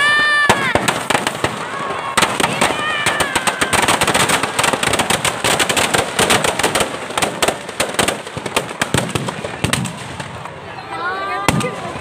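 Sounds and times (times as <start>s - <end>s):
firecrackers banging and crackling: 0.0s - 12.0s.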